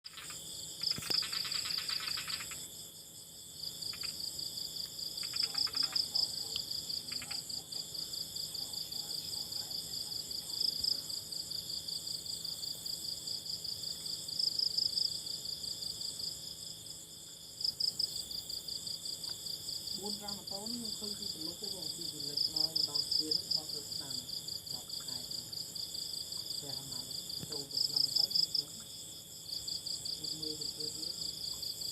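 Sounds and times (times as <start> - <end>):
crickets trilling: 0.1 - 31.9
low rasping insect trill: 0.1 - 31.9.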